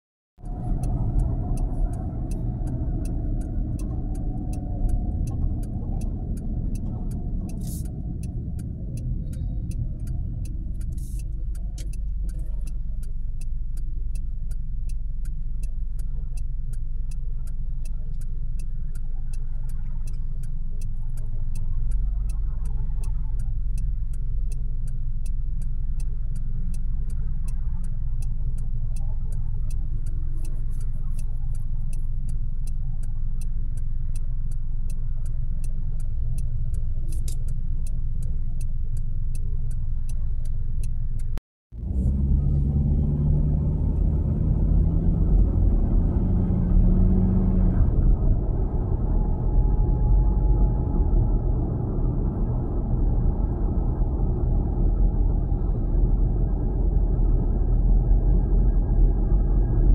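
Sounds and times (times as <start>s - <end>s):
car engine and road rumble: 0.3s - 59.9s
turn signal ticking: 0.4s - 59.9s.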